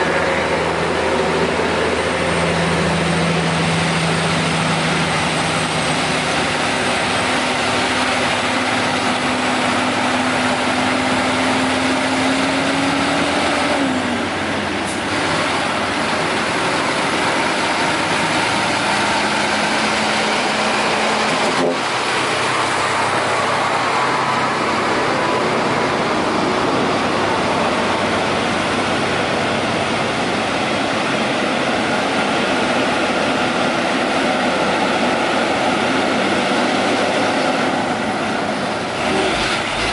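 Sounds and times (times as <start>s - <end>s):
diesel truck engines driving past: 0.0s - 39.9s.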